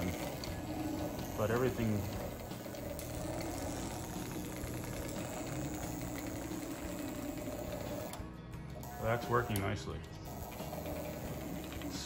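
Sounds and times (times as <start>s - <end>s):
electric motor whirring: 0.0s - 12.0s.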